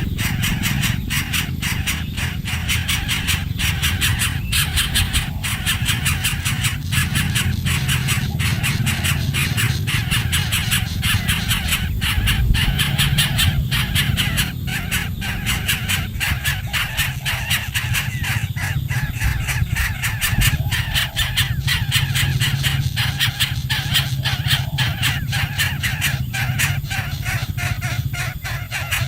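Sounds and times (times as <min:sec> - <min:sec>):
nestling birds begging: 0:00.0 - 0:29.0
steady low hum: 0:00.0 - 0:29.0.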